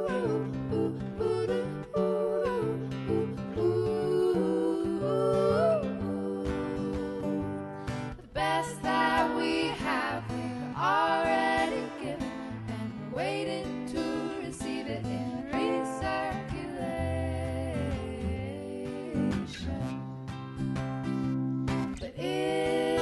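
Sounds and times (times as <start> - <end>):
person singing: 0.0 - 20.1, 22.0 - 23.0
acoustic guitar: 0.0 - 23.0.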